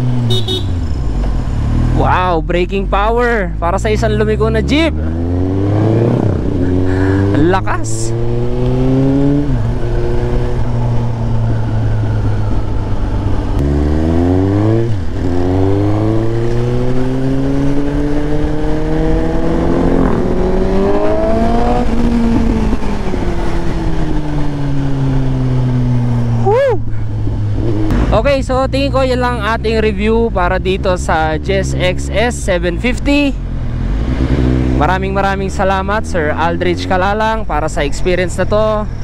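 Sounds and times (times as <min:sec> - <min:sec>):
motorcycle engine accelerating: 0:00.0 - 0:37.3.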